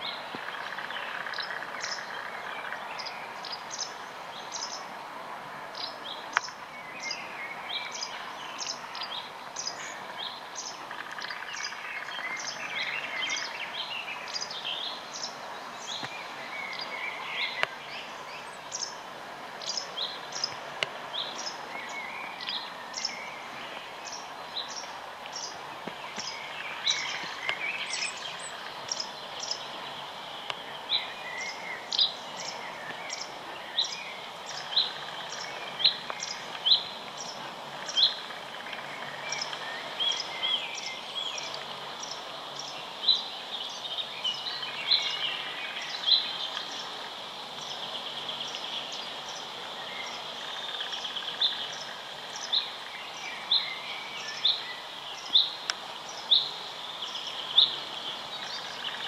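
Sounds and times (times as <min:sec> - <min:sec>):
bird chirping: 0:00.0 - 0:04.9, 0:05.7 - 0:19.0, 0:19.6 - 0:59.0
background noise: 0:00.0 - 0:59.0.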